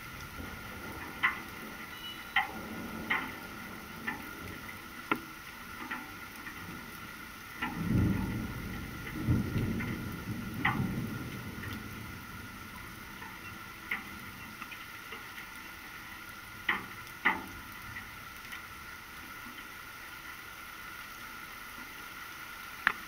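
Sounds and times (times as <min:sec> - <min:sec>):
thunder rumbling: 0:00.0 - 0:19.0
rain hissing: 0:00.0 - 0:23.0
large drops ticking on hard surface: 0:00.2 - 0:18.7.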